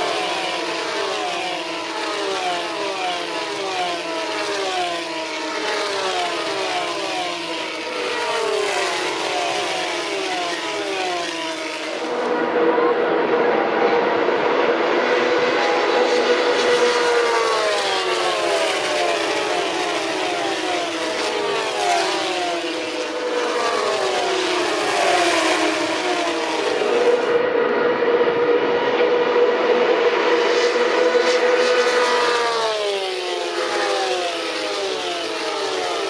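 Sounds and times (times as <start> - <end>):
race car engines at high revs: 0.0 - 36.0.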